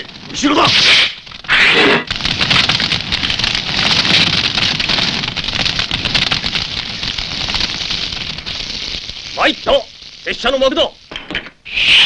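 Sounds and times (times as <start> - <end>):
fire crackling: 0.0 - 12.0.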